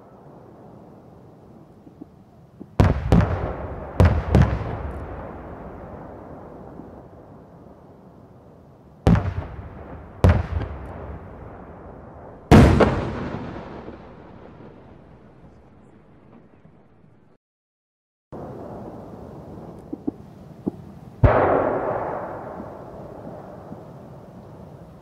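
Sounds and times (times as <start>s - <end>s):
long rolling echo: 2.8s - 17.1s, 18.4s - 25.0s.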